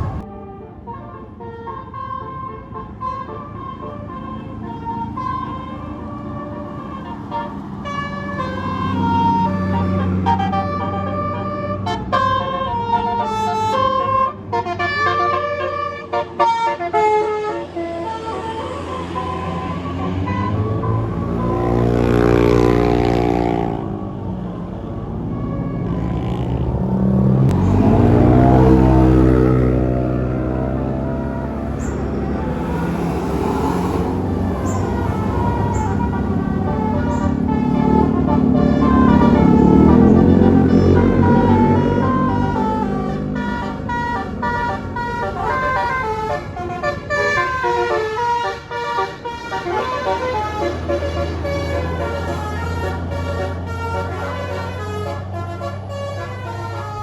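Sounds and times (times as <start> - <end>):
bus engine revving: 0.0 - 0.3, 1.9 - 57.0.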